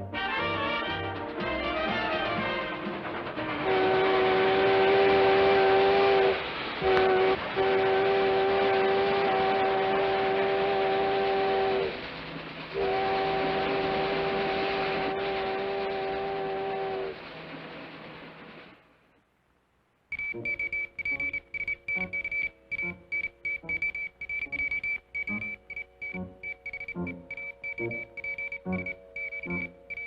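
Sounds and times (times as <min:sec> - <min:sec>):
steam locomotive whistle: 0:00.0 - 0:17.9, 0:20.4 - 0:30.0
running train rushing noise: 0:00.0 - 0:19.0, 0:20.4 - 0:30.0.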